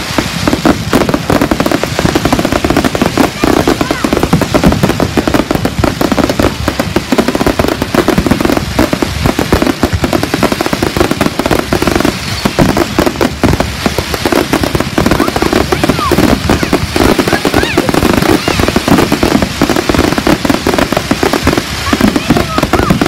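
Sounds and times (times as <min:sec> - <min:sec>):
fireworks cracks and pops: 0:00.0 - 0:23.0.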